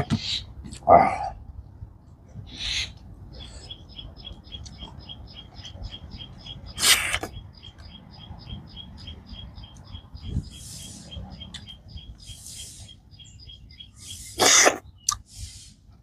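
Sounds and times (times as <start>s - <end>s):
bird chirping: 2.4s - 15.7s.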